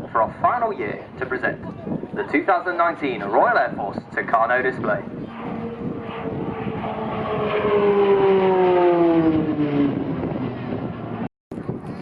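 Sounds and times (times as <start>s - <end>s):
propeller plane flying past: 0.9s - 12.0s.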